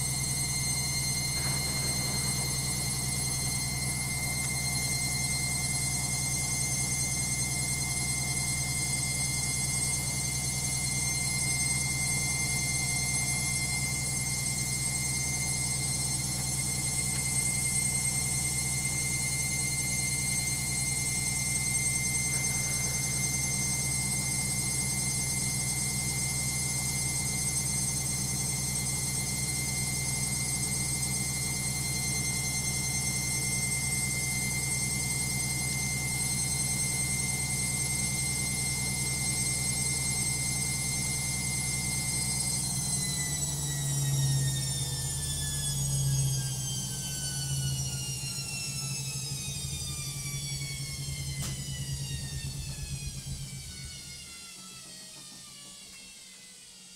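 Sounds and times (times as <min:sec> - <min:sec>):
washing machine spinning: 0:00.0 - 0:56.9.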